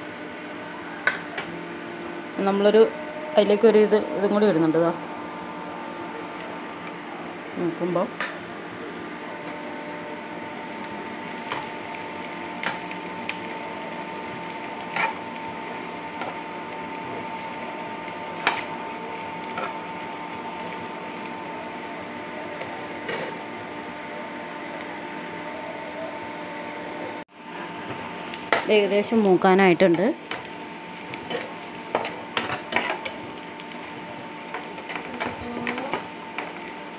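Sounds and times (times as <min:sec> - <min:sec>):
onions sizzling in pan: 0:00.0 - 0:36.9
steady hum: 0:00.0 - 0:36.9.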